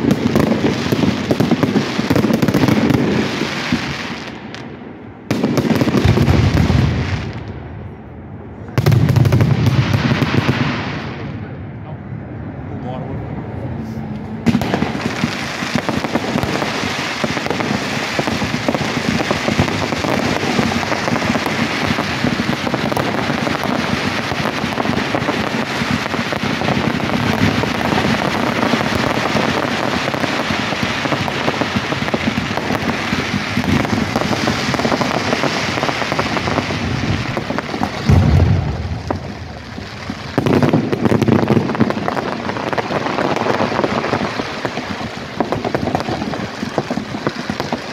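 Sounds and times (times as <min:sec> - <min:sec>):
fireworks crackling: 0:00.0 - 0:11.6, 0:14.0 - 0:47.9
deep fireworks booms: 0:00.0 - 0:11.8, 0:14.4 - 0:47.9.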